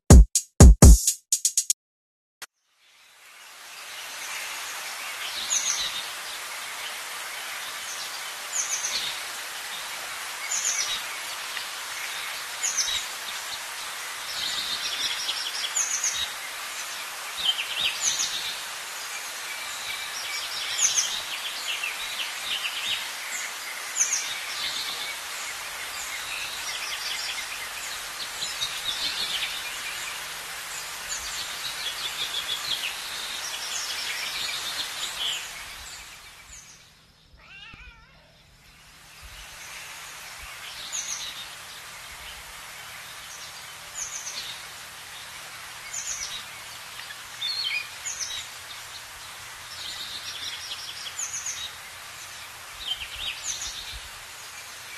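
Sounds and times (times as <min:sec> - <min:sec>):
steady hiss: 0:02.9 - 0:37.1, 0:37.8 - 0:54.9
small birds chirping: 0:03.8 - 0:54.9.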